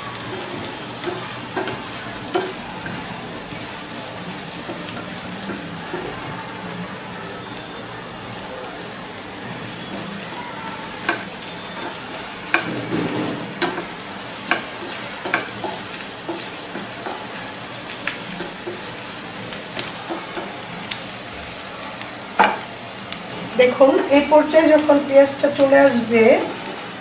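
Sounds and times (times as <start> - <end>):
onion sizzling in hot oil: 0.0 - 27.0.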